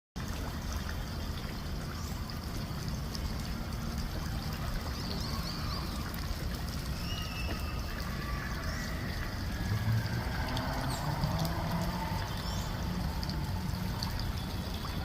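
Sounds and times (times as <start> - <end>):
water trickling: 0.2 - 15.0.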